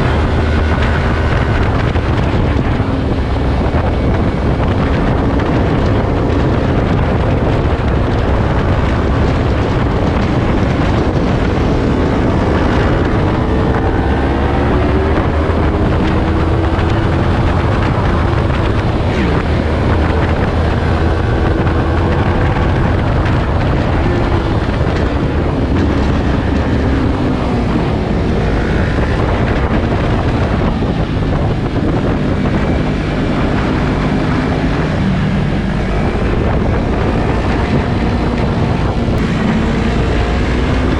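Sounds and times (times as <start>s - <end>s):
motorcycle engine accelerating: 0.0s - 40.9s
wind rush on microphone: 0.0s - 40.9s.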